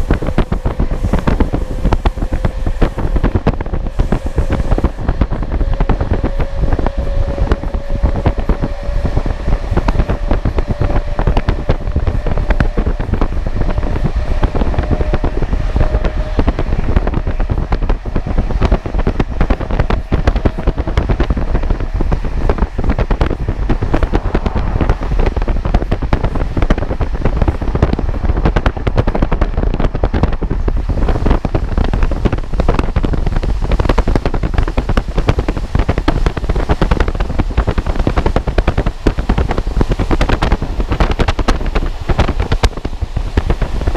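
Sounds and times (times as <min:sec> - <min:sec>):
train rumbling: 0:00.0 - 0:43.9
wind buffeting microphone: 0:00.0 - 0:43.9.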